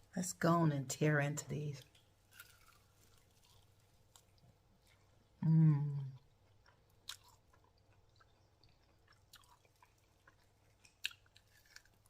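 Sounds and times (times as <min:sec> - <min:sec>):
crunching of chewing fried chicken: 0:01.8 - 0:12.0.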